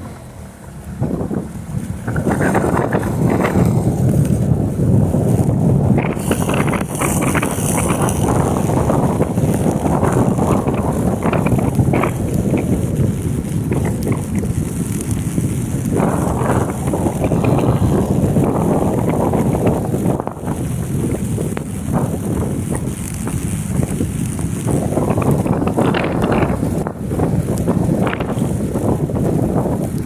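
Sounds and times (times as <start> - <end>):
moving vehicle rumble: 0.0 - 30.0
wind buffeting microphone: 0.0 - 30.0.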